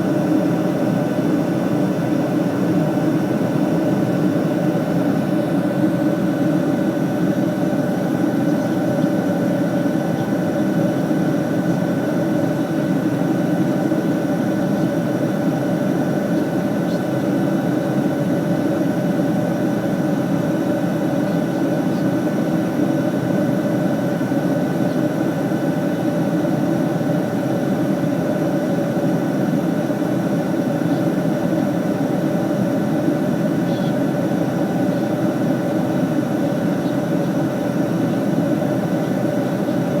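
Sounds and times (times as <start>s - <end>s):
airliner cabin engine rush: 0.0s - 40.0s.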